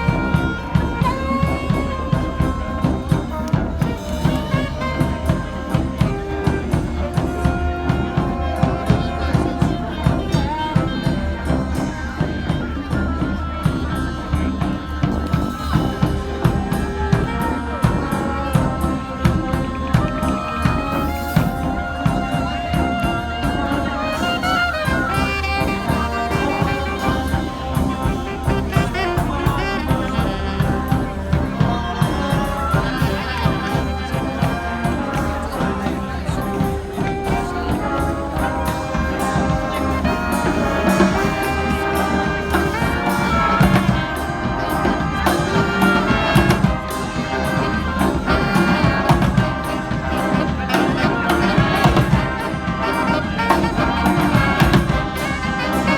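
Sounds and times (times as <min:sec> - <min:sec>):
brass band playing: 0:00.0 - 0:55.9
steady drum beat: 0:00.0 - 0:55.9.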